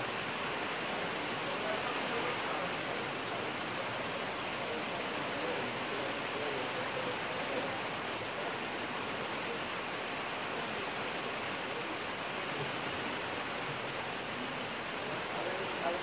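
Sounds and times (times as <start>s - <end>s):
rain falling on plants: 0.0s - 16.0s.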